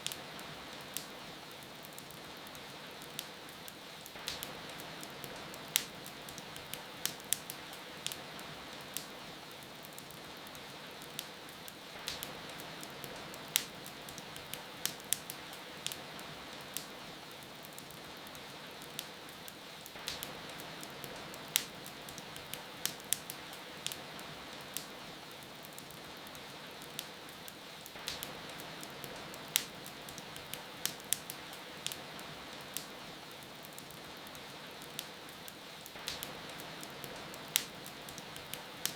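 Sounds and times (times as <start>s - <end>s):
fireplace fire crackling: 0.0s - 38.9s
rain hiss: 0.0s - 38.9s.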